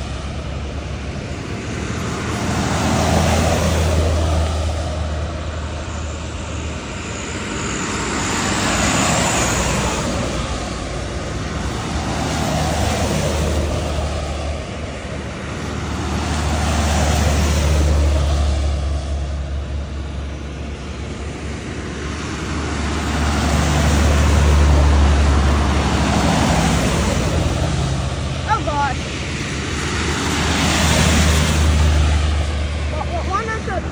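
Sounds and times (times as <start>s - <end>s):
buses driving past: 0.0s - 33.9s.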